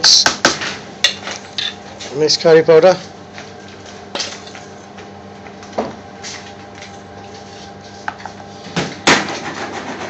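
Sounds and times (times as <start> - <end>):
kitchen mechanical hum: 0.0 - 10.0.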